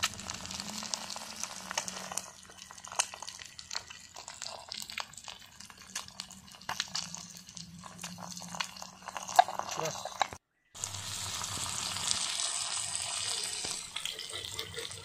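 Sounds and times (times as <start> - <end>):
eggs sizzling in a pan: 0.0 - 15.0.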